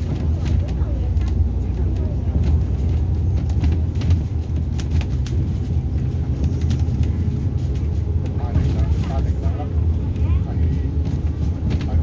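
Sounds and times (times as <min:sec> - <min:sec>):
vehicle engine and tyre rumble: 0:00.0 - 0:12.0.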